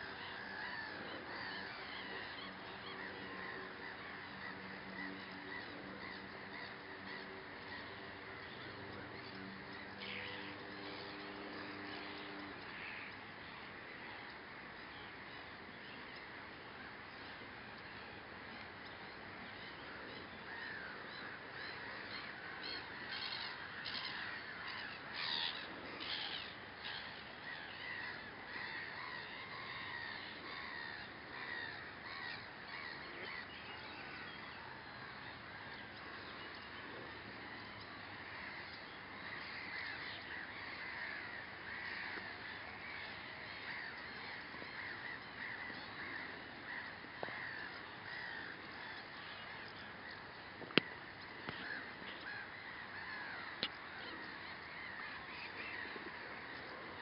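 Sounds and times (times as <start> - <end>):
low steady hum: 0.0 - 57.0
wild birds calling: 0.0 - 57.0.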